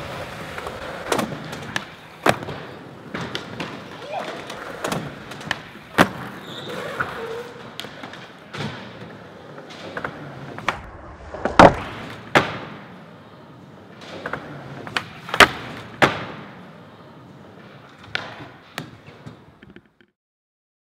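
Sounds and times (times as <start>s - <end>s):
skateboard wheels rolling: 0.0s - 20.1s
skateboard clacks and slaps: 0.0s - 20.2s.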